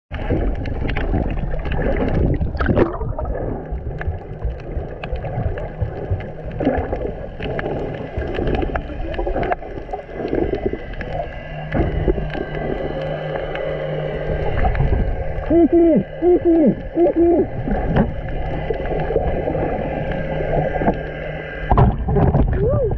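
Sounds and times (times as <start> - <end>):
muffled underwater water rush: 0.1 - 22.9.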